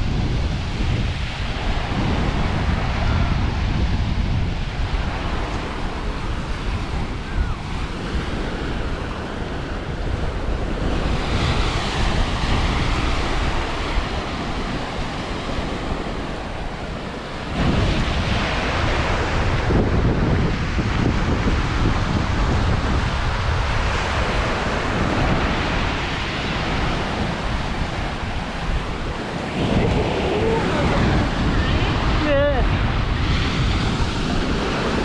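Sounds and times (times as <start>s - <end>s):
sea waves breaking on shore: 0.0s - 35.0s
wind buffeting microphone: 0.0s - 35.0s.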